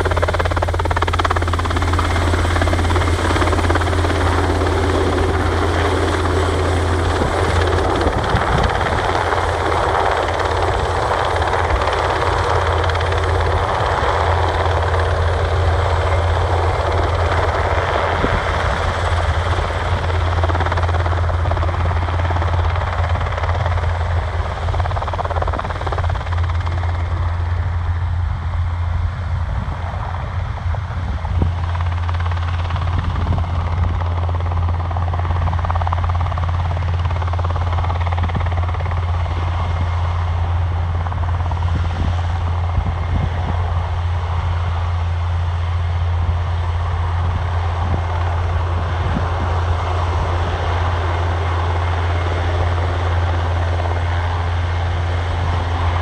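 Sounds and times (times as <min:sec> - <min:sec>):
helicopter engine noise: 0:00.0 - 0:56.0
helicopter rotor beating: 0:00.0 - 0:56.0.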